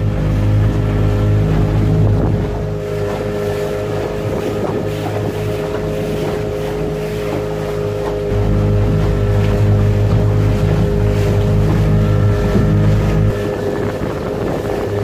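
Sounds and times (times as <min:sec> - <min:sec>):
motorboat engine running: 0:00.0 - 0:15.0
water rushing: 0:00.0 - 0:15.0
wind: 0:00.0 - 0:15.0.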